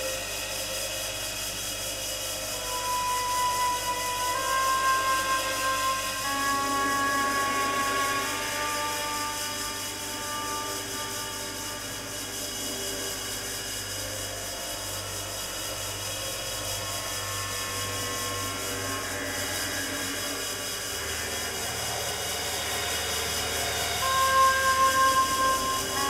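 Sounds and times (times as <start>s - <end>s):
steady hiss: 0.0s - 26.0s
film music sustained tones: 1.3s - 26.0s.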